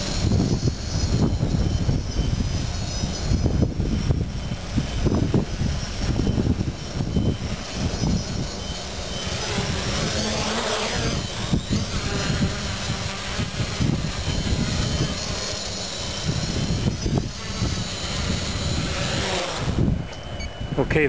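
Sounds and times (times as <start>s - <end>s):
drone propellers whining: 0.0s - 21.0s
wind buffeting microphone: 0.0s - 21.0s.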